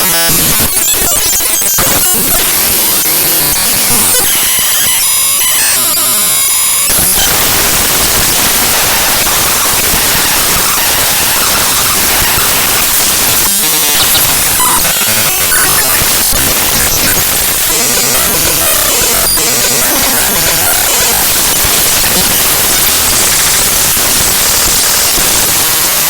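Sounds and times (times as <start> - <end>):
buzzy electronic tones: 0.0 - 26.0
harsh static hiss: 0.0 - 26.0.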